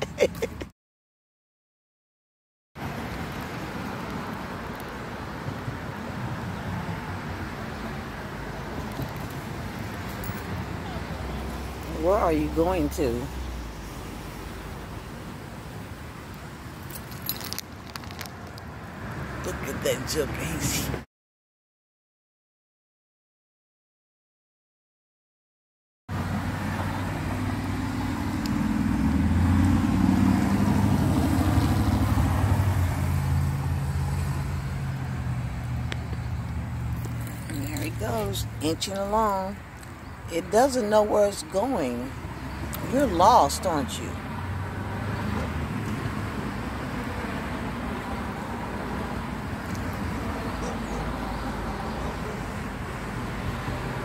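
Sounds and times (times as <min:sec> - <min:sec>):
vehicle engine humming: 0:02.8 - 0:21.0, 0:26.1 - 0:54.0.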